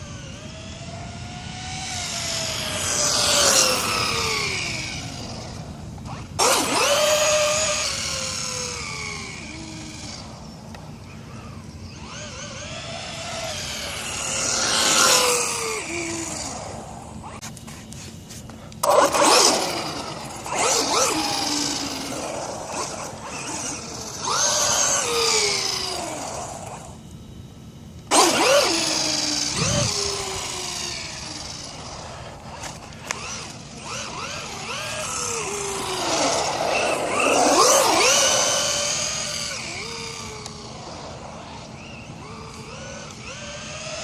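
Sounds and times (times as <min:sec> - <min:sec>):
radio-controlled car motor: 0:00.0 - 0:17.4, 0:18.8 - 0:27.1, 0:28.1 - 0:44.0.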